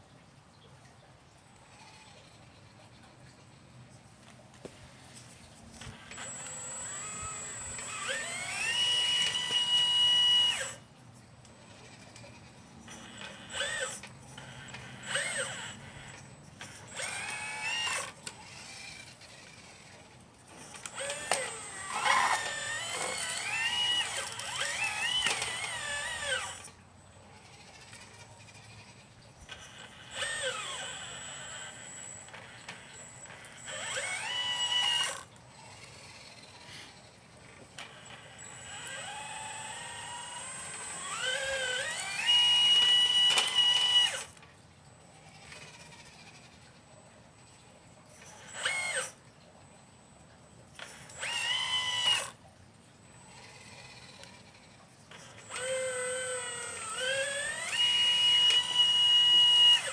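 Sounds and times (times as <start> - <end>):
electric motors whining: 4.6 - 59.9.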